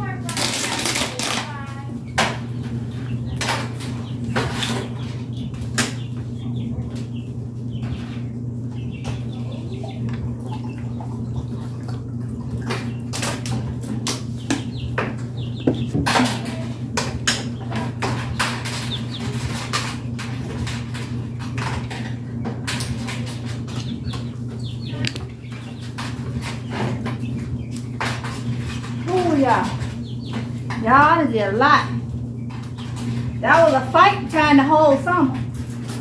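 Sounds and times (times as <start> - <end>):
chickens clucking: 0.0 - 36.0
low electrical hum: 0.0 - 36.0.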